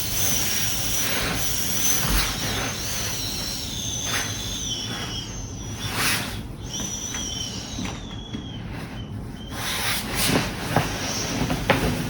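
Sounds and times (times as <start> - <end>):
air whistling out of a valve: 0.0 - 12.0.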